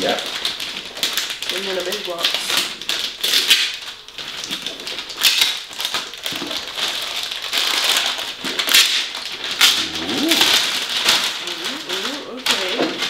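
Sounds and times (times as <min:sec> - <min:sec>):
wrapping paper crinkling and tearing: 0:00.0 - 0:13.0.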